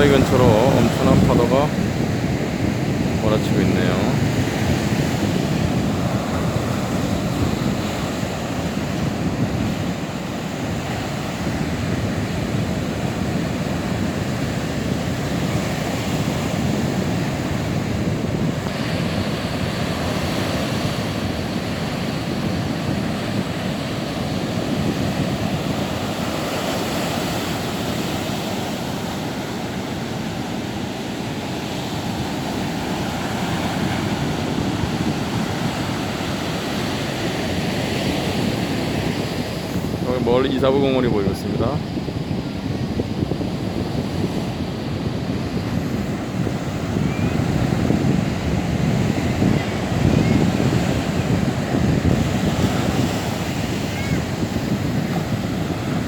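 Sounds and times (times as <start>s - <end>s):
surf crashing on rocks: 0.0s - 56.0s.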